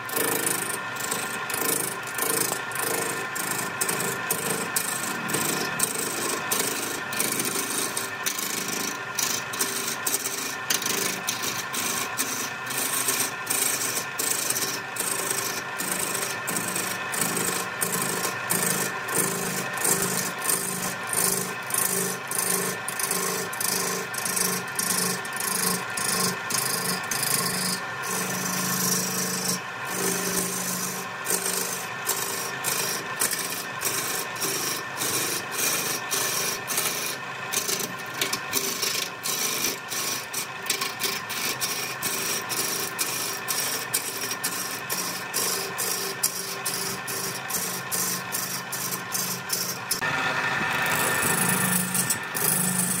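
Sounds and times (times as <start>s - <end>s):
lathe humming: 0.0s - 53.0s
tool scraping spinning wood: 0.0s - 53.0s.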